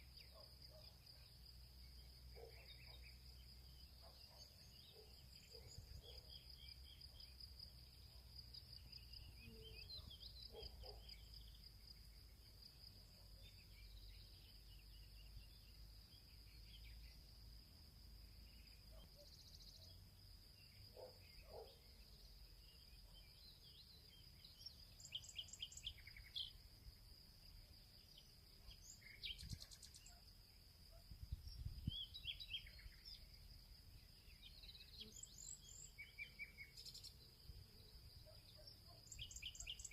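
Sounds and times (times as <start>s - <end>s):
cricket trill: 0.0s - 39.9s.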